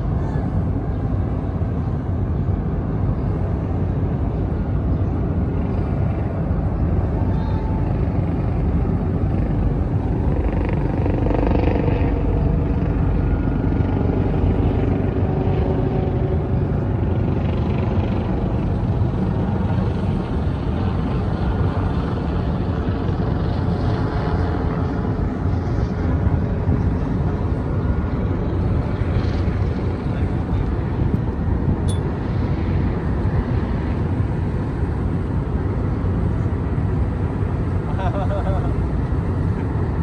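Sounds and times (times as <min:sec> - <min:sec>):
low rumble of ship machinery: 0:00.0 - 0:40.0.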